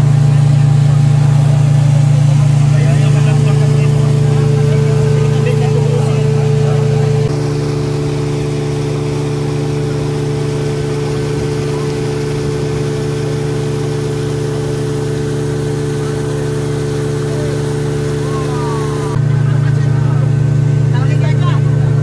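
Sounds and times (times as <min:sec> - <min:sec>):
speedboat engine droning: 0:00.0 - 0:22.0
water rushing along hull: 0:00.0 - 0:22.0.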